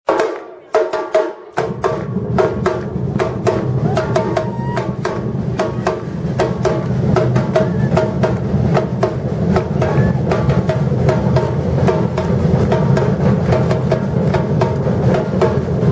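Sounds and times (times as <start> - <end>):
fast sharp drum strikes: 0.0 - 15.9
deep bass drums: 1.7 - 15.9.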